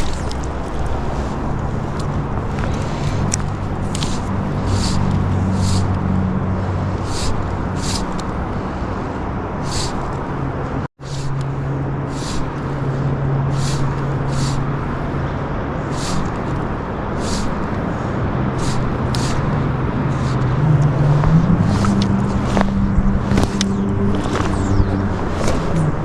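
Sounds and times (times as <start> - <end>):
low hum: 0.0 - 26.0
steady rushing outdoor noise: 0.0 - 26.0
short hissy swishes: 2.8 - 6.1, 6.9 - 9.0, 9.6 - 10.2, 11.0 - 26.0.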